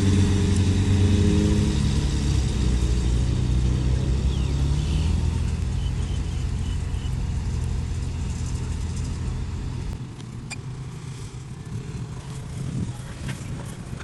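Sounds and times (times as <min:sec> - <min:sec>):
diesel engine of earthmoving machine: 0:00.0 - 0:14.0.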